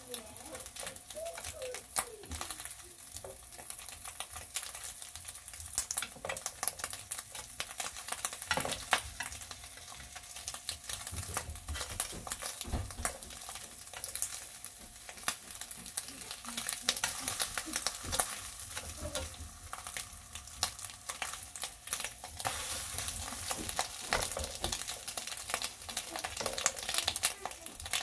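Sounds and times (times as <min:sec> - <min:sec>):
food frying in oil: 0:00.0 - 0:28.0.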